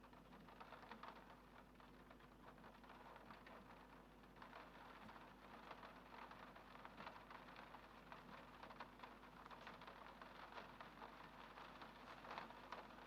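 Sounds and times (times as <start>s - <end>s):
faint rain with drop taps: 0.0s - 13.0s.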